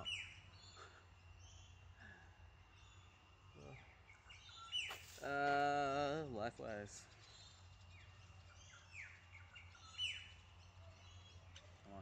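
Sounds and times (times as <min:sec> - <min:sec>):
birds chirping faintly: 0:00.0 - 0:12.0
low steady background hum: 0:00.0 - 0:12.0.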